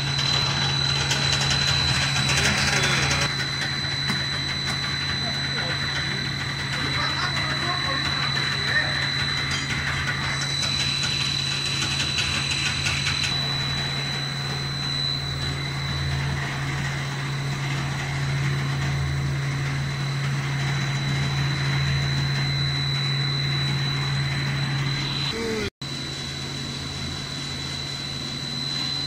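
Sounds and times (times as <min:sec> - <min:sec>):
high steady whine: 0:00.0 - 0:29.0
machine low hum: 0:00.0 - 0:29.0.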